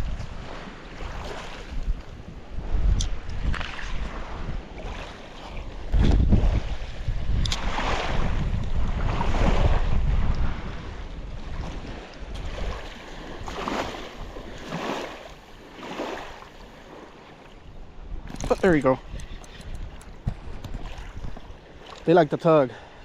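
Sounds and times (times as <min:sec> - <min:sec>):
waves washing on shore: 0:00.0 - 0:23.0
wind buffeting microphone: 0:00.0 - 0:23.0.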